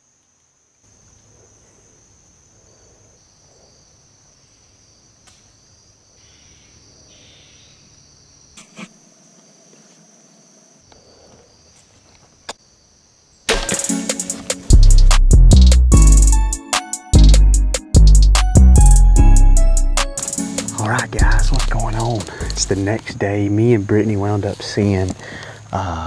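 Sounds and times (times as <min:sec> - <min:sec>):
insects chirring: 0:00.0 - 0:17.0, 0:20.1 - 0:26.0.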